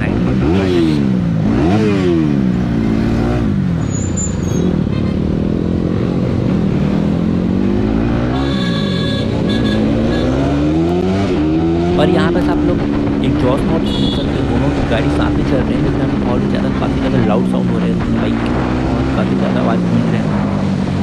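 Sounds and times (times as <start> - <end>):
motorcycle engine revving: 0.0 - 21.0
other motorcycles running: 0.0 - 21.0.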